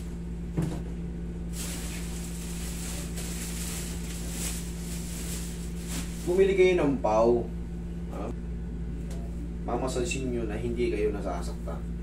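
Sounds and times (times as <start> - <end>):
air conditioner hum and hiss: 0.0 - 12.0.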